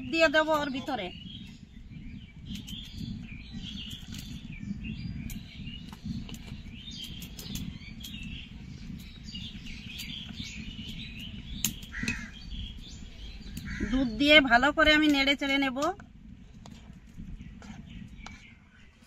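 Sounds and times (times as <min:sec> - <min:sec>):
birds chirping and calling: 0:00.0 - 0:15.8, 0:16.6 - 0:19.0.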